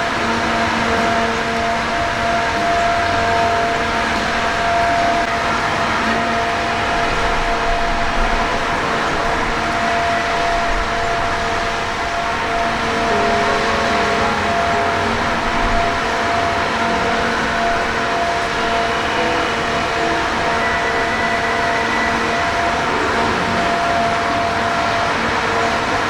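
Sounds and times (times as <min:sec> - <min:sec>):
misting fan whirring: 0:00.0 - 0:26.0.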